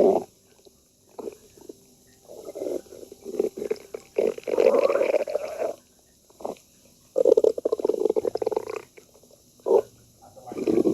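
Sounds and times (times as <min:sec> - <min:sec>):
stomach growling: 0:00.0 - 0:10.9.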